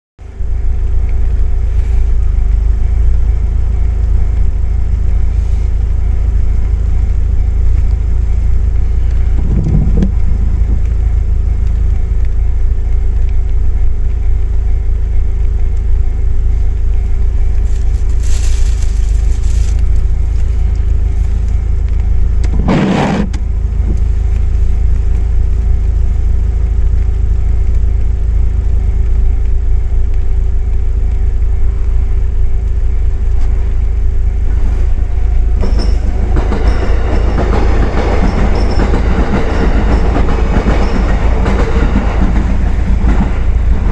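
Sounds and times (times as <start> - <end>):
car low rumble: 0.2 - 43.9
thin steady hum: 0.2 - 43.9.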